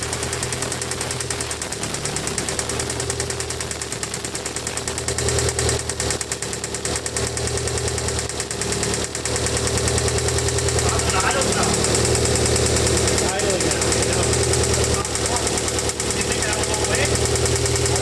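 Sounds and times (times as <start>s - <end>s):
car engine idling with ticking: 0.0s - 18.0s.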